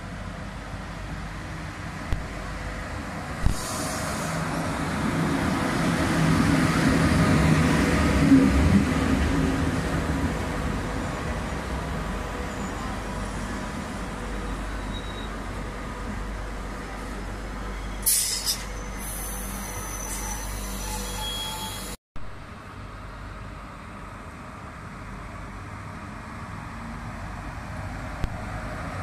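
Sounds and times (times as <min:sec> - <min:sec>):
passenger train rumbling: 0:00.0 - 0:29.0.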